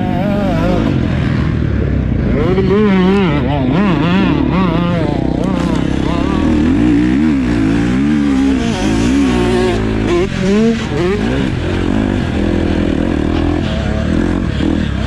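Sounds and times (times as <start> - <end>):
motorbike engines revving: 0.0 - 15.0.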